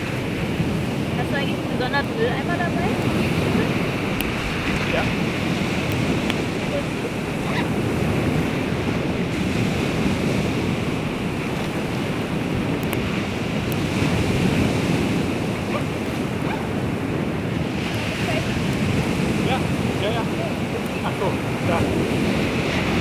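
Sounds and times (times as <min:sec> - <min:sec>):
sea surf washing on shore: 0:00.0 - 0:23.0
wind buffeting microphone: 0:00.0 - 0:23.0.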